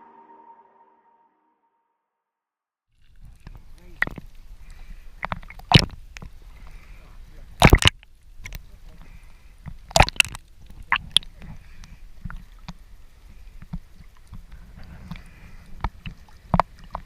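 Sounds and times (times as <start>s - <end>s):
water sloshing against a boat: 3.0s - 17.0s.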